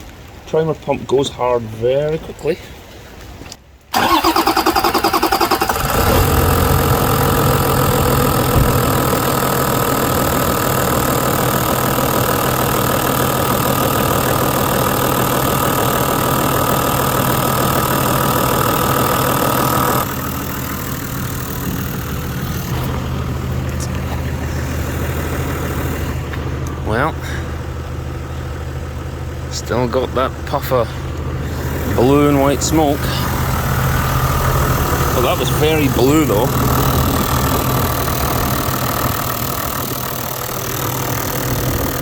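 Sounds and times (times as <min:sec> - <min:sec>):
starter motor cranking: 0:03.9 - 0:26.9, 0:31.0 - 0:42.0
diesel engine idling: 0:03.9 - 0:42.0.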